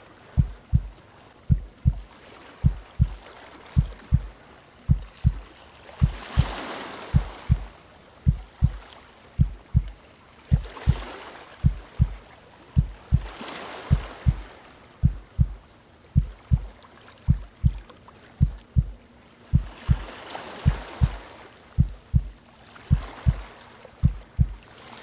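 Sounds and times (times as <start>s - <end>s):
ocean waves: 0.0s - 25.0s
heartbeat thumps: 0.4s - 3.2s, 3.8s - 8.8s, 9.4s - 12.2s, 12.8s - 15.6s, 16.2s - 16.7s, 17.3s - 17.8s, 18.4s - 21.2s, 21.8s - 24.6s.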